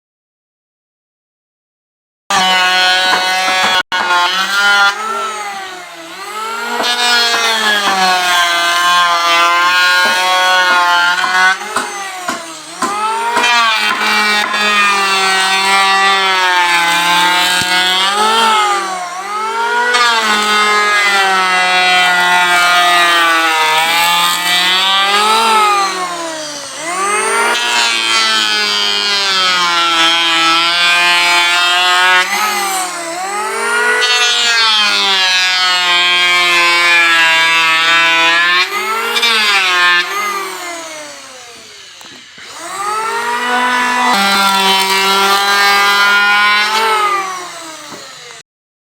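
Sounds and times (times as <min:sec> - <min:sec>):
power tool cutting wood: 0:02.3 - 0:48.5.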